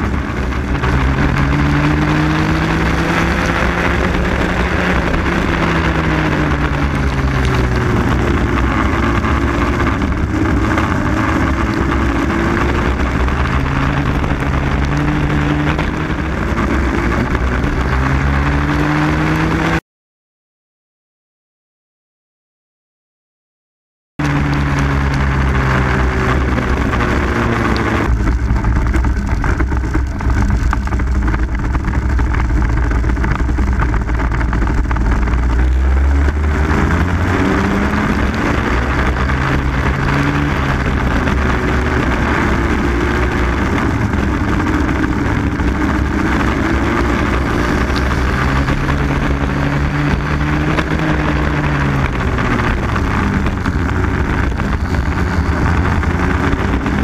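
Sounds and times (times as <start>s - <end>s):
kart engine revving: 0.0s - 19.8s, 24.2s - 57.0s.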